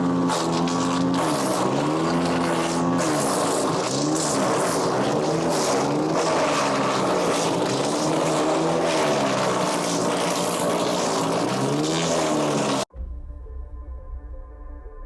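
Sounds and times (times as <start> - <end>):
chipper shredder engine running: 0.0 - 12.9.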